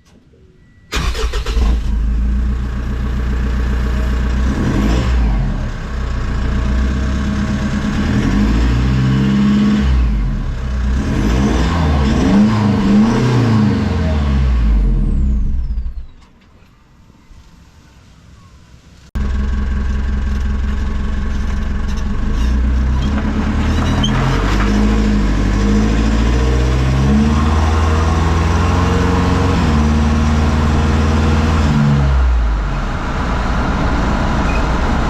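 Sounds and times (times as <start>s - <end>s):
diesel engine revving: 0.9s - 16.0s, 19.2s - 35.0s.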